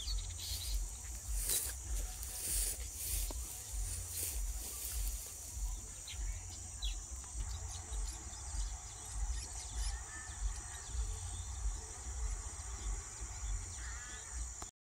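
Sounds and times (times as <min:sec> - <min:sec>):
bird chirps: 0:00.0 - 0:14.7
insects droning: 0:00.0 - 0:14.7.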